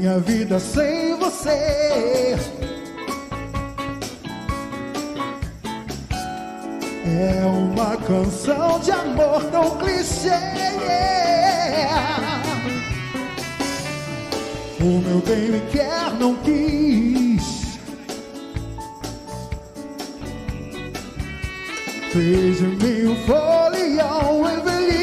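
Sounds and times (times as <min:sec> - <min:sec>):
big band with horns and drums: 0:00.0 - 0:25.0.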